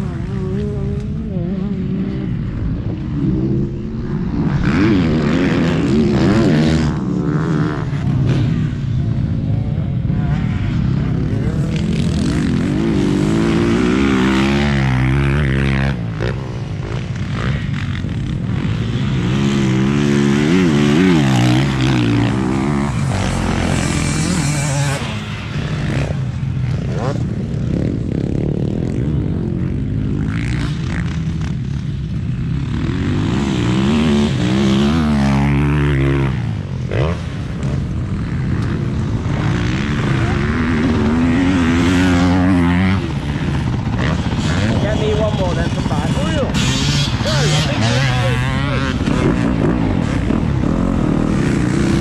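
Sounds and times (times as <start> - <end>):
motocross bike engines revving: 0.0 - 52.0.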